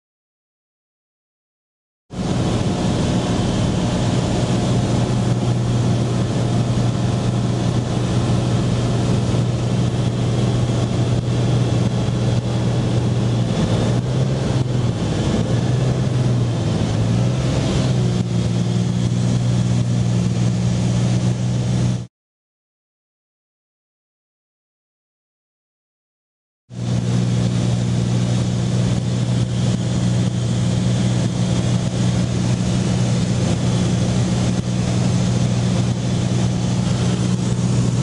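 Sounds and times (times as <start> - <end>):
plane engine droning in cabin: 2.1 - 22.1, 26.7 - 38.0.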